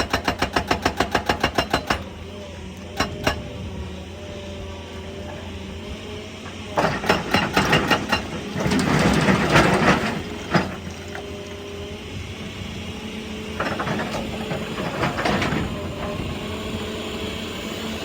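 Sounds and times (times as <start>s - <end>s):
diesel excavator engine running: 0.0s - 18.0s.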